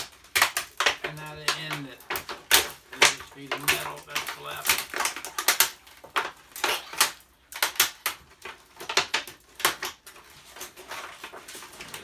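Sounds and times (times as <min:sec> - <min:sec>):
sheet metal ripped and crumpled: 0:00.0 - 0:12.0.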